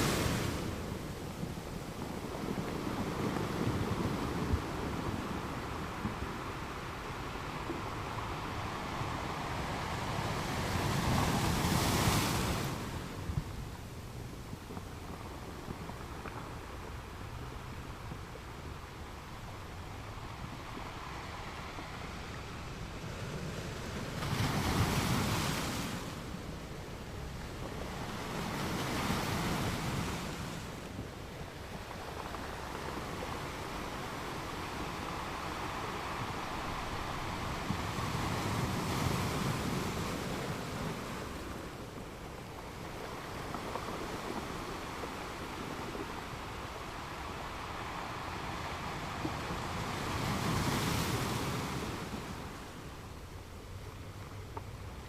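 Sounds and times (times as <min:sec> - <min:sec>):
ocean waves washing: 0:00.0 - 0:55.0.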